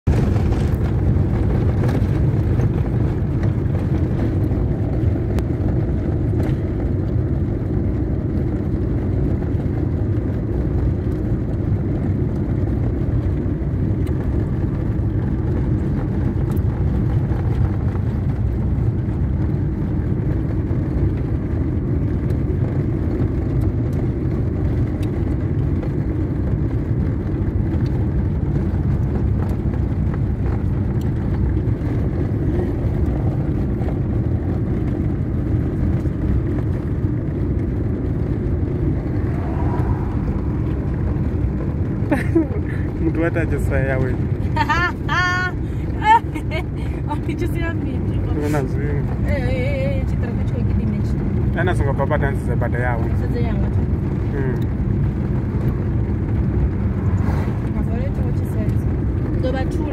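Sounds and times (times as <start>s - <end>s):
car driving rumble inside cabin: 0.0s - 59.9s.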